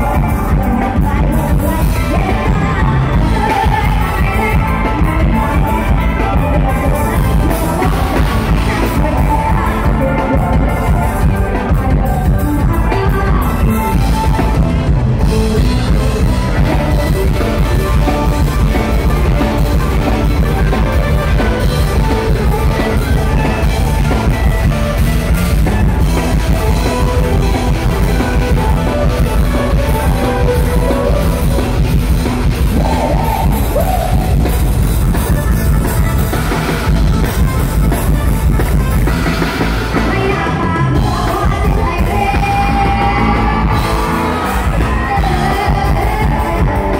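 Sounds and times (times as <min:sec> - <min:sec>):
person singing: 0:00.0 - 0:36.4, 0:39.8 - 0:46.9
drum kit: 0:00.0 - 0:46.9
live band music: 0:00.0 - 0:46.9.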